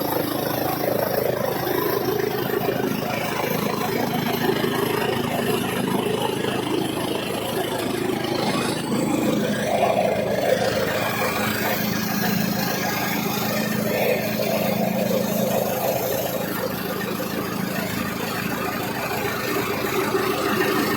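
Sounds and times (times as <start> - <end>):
chaff cutter machine droning: 0.0 - 20.9.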